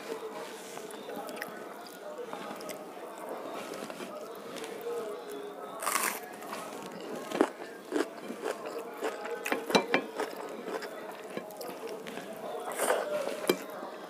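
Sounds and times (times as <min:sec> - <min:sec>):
fingers squishing rice: 0:00.1 - 0:13.8.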